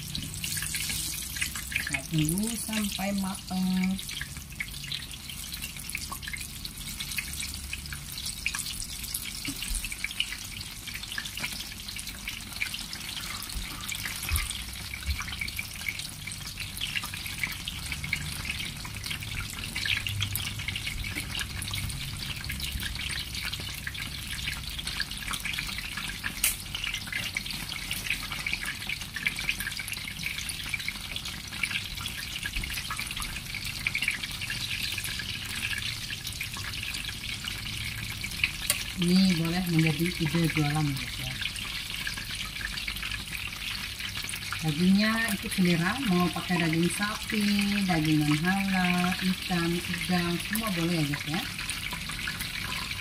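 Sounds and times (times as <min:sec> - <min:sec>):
food deep-frying in oil: 0:00.0 - 0:53.0.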